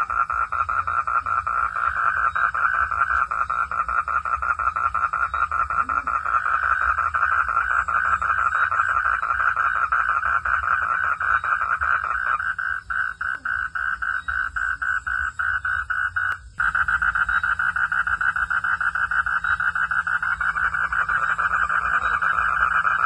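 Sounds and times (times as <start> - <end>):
frogs calling in pulsing chorus: 0.0 - 23.0.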